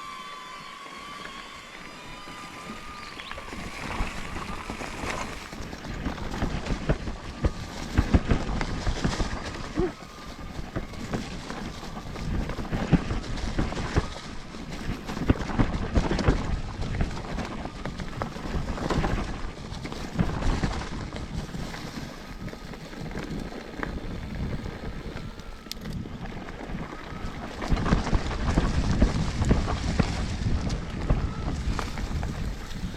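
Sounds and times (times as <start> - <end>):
mountain bike rattling on trail: 0.0 - 32.9
wind buffeting microphone: 0.0 - 32.9.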